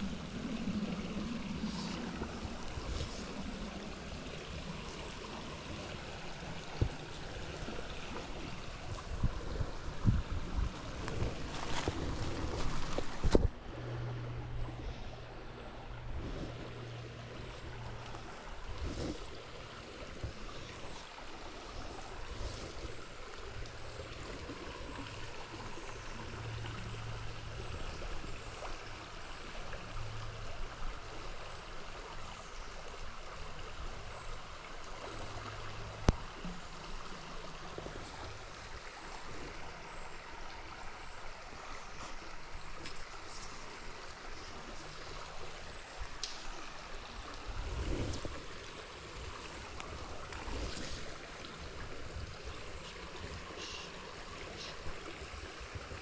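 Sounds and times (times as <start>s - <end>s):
river water flowing over stones: 0.0s - 56.0s.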